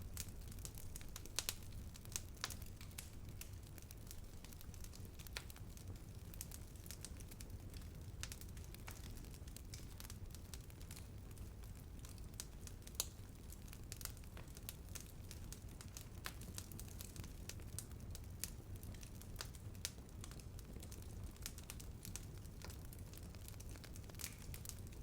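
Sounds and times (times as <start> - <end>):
rumble of flames: 0.0 - 25.0
wood crackling and popping: 0.0 - 25.0.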